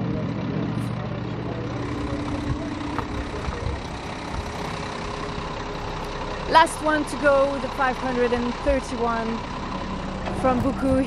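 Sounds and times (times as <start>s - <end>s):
diesel truck engines rumbling: 0.0s - 11.0s.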